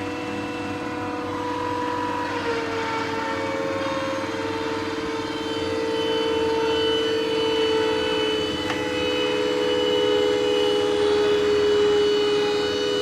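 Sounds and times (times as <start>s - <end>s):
power tool motor whining: 0.1s - 13.0s.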